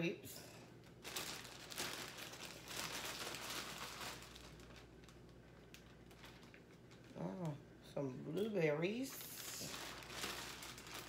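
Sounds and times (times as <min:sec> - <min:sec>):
fruit rustling and crinkling: 0:00.8 - 0:07.6, 0:08.8 - 0:11.0.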